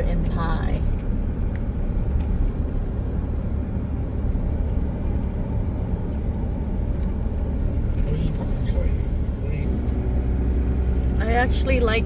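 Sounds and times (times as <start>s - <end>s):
road and wind noise: 0.0s - 12.0s
vehicle rumble: 0.0s - 12.0s.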